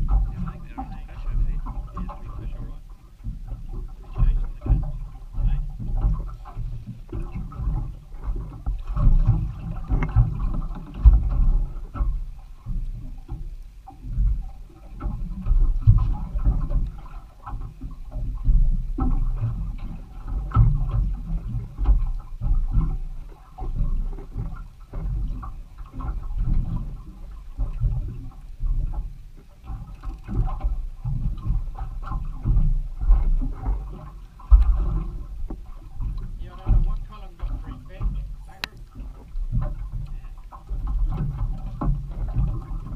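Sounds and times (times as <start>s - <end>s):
water slapping against boat hull: 0.0s - 42.9s
wind buffeting microphone: 0.0s - 42.9s.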